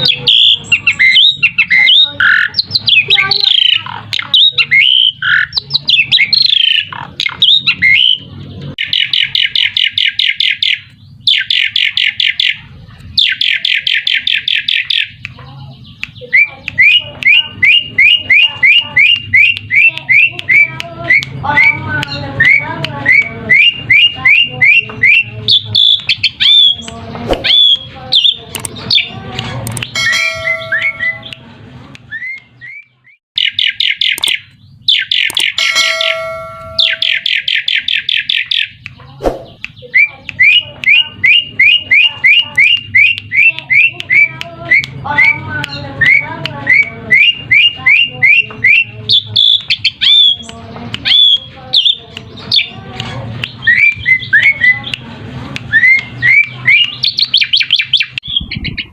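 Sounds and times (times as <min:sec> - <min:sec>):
starling whistled song: 0:00.0 - 0:12.6, 0:13.2 - 0:31.4, 0:32.1 - 0:52.8, 0:53.5 - 0:55.0, 0:55.6 - 0:58.9
starling fast chattering: 0:00.0 - 0:31.8, 0:36.8 - 0:58.9.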